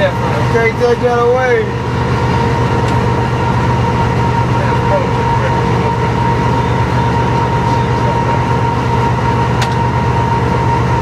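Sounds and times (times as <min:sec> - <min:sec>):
high-pitched whine: 0:00.0 - 0:11.0
locomotive engine drone: 0:00.0 - 0:11.0.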